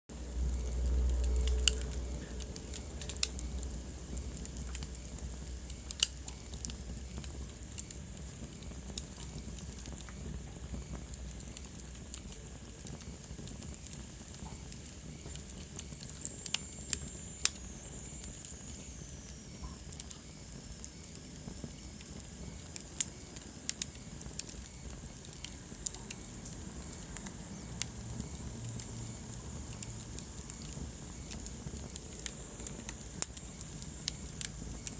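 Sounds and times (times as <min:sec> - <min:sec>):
wood fire crackling and popping: 0:00.1 - 0:34.9.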